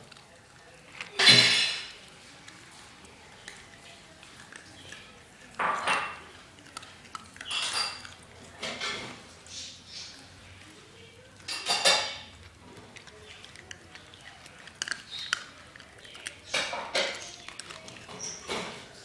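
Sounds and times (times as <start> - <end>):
dog eating kibble from bowl: 0.0 - 19.0.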